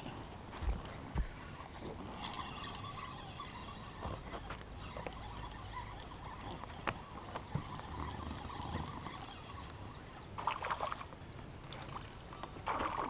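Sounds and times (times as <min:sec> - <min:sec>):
water lapping around boat hull: 0:00.2 - 0:13.0.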